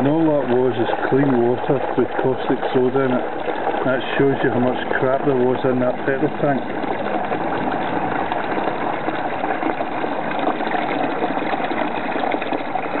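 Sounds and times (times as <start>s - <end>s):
liquid splashing into container: 0.0s - 13.0s.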